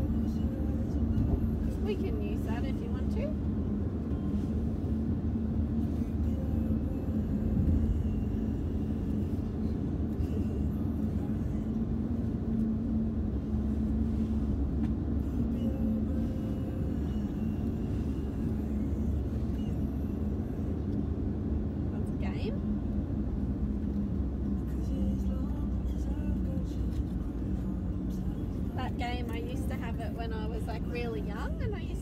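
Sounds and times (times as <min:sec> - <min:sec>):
car engine and road noise: 0:00.0 - 0:32.0
constant low hum: 0:00.0 - 0:32.0.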